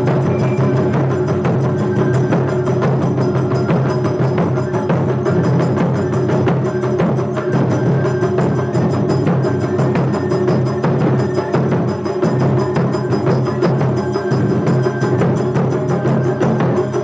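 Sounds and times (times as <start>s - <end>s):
taiko drums beating fast: 0.0s - 17.0s.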